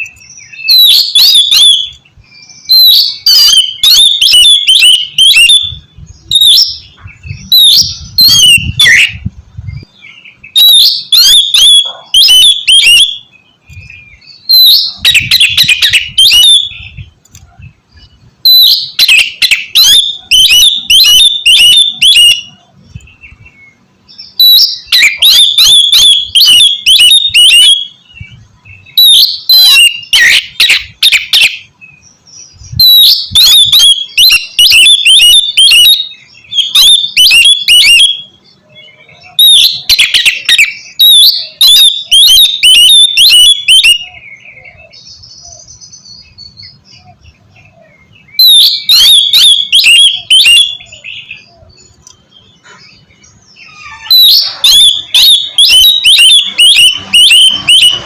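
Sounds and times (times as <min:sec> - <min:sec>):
bird singing whistles and harsh notes: 0:00.0 - 0:58.0.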